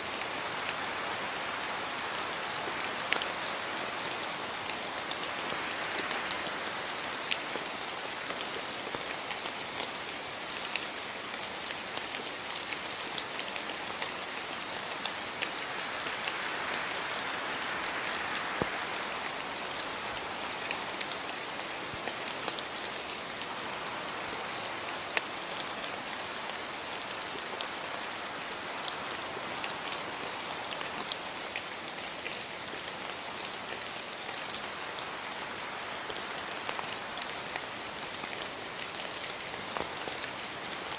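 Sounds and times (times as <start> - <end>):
steady rain hiss: 0.0 - 40.9
raindrops ticking close by: 2.8 - 40.9.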